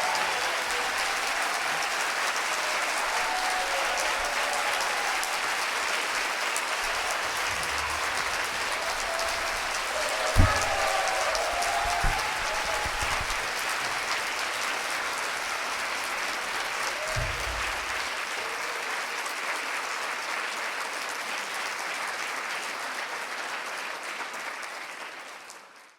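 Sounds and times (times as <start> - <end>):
audience applauding: 0.0 - 25.9.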